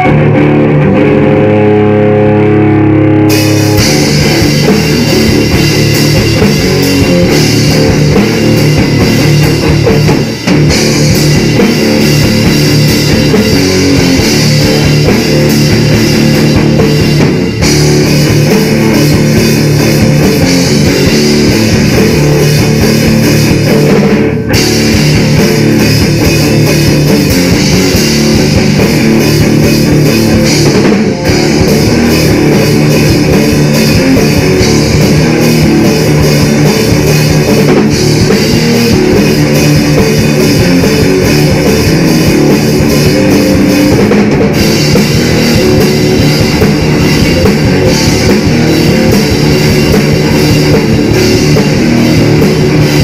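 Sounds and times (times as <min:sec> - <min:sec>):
electric guitar playing: 0:00.0 - 0:53.0
rock band playing: 0:00.0 - 0:53.0.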